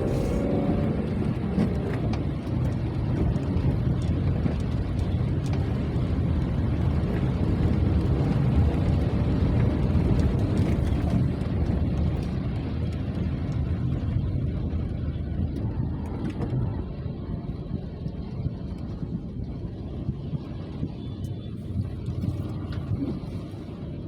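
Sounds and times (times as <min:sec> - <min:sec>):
rain and wind rumbling: 0:00.0 - 0:24.0.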